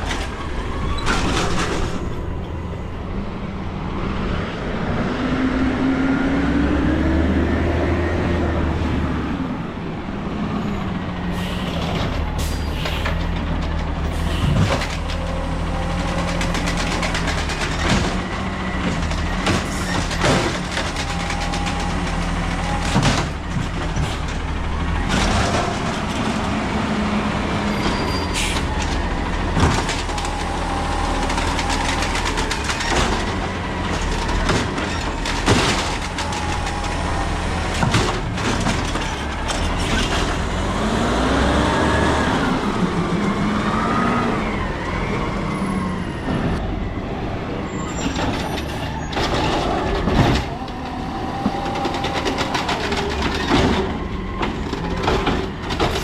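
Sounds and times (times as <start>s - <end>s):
diesel engine running: 10.6s - 56.0s.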